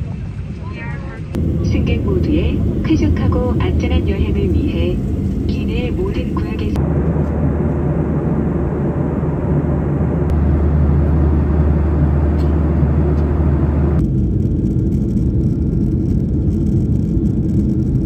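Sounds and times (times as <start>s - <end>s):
jet airliner cabin drone: 0.0s - 18.0s.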